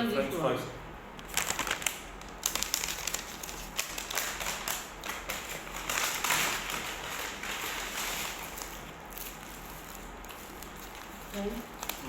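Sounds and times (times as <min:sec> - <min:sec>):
paper packaging crinkling: 0:01.2 - 0:12.0.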